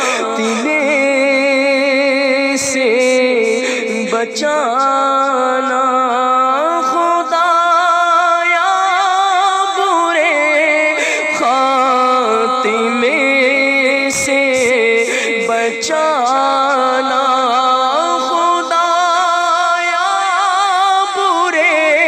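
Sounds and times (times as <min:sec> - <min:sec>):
person singing slow chant: 0:00.0 - 0:22.0.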